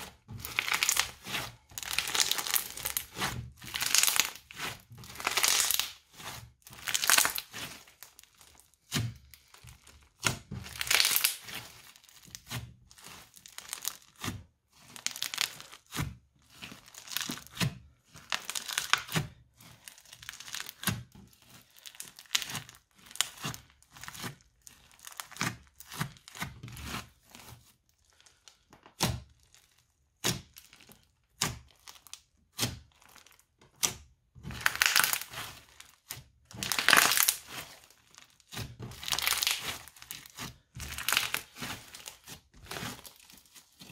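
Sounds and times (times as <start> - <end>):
crunchy slime crackling: 0.0 - 43.9.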